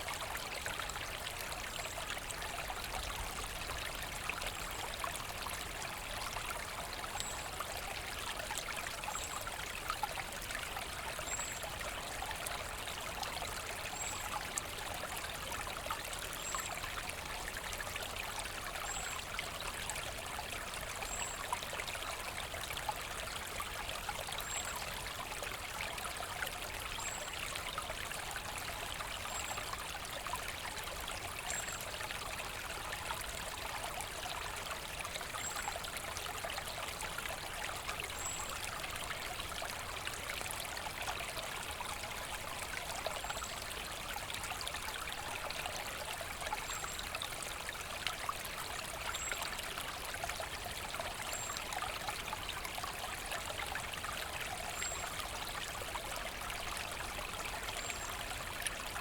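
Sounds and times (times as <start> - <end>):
brook babbling over stones: 0.0 - 59.0.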